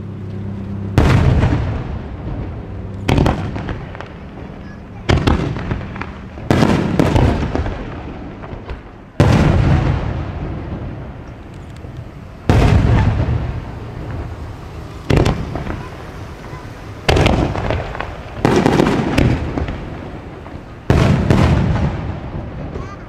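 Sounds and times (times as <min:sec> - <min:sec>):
fireworks booming with rumbling tail: 0:00.8 - 0:23.0.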